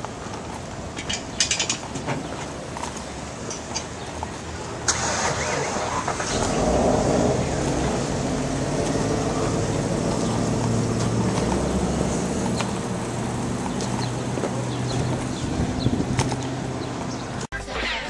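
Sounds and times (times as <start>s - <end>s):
road noise: 0.0s - 18.0s
car engine drone: 2.5s - 18.0s.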